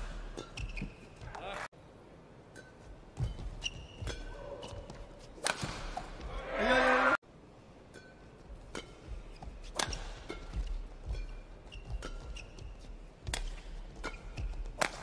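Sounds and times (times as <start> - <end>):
racket hitting shuttlecock: 0.0 - 1.5, 2.5 - 6.6, 7.9 - 15.0
shoes squeaking on court floor: 0.0 - 1.6, 2.6 - 6.4, 8.4 - 15.0.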